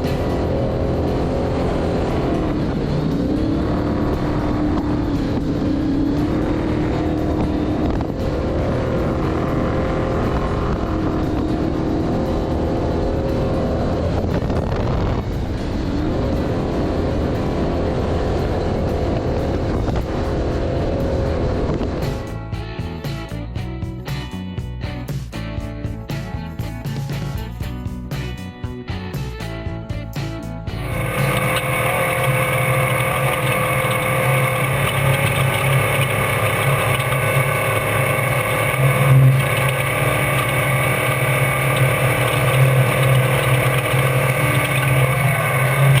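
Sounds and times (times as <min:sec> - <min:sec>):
race vehicle engine revving: 0:00.0 - 0:22.4, 0:30.7 - 0:46.0.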